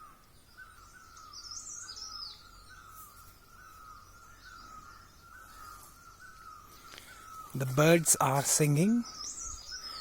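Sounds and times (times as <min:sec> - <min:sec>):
high bird twittering: 0:00.0 - 0:10.0.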